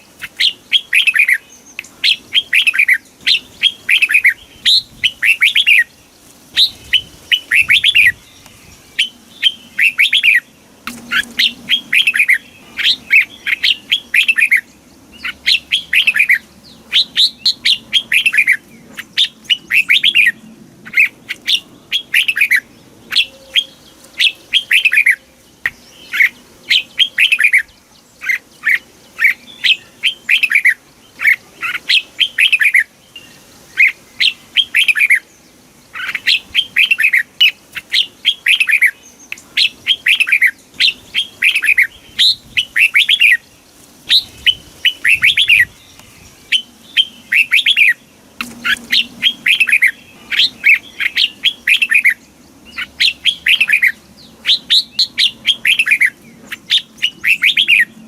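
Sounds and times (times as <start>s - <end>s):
bird singing whistled notes: 0.0s - 6.0s, 6.6s - 43.5s, 44.1s - 58.0s.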